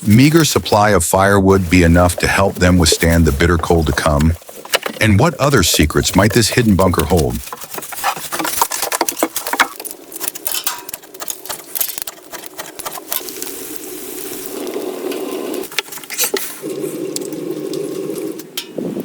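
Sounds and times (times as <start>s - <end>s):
crackling and sizzling: 0.0s - 19.0s.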